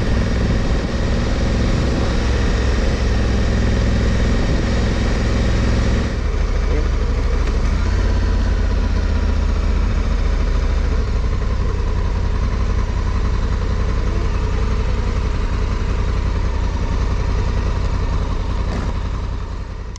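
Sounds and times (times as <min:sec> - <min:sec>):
motorcycle engine rumble: 0:00.0 - 0:19.9.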